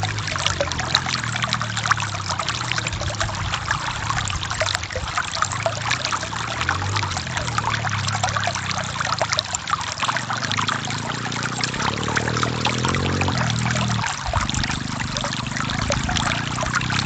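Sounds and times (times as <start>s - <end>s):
stream water splashing over rocks: 0.0s - 17.0s.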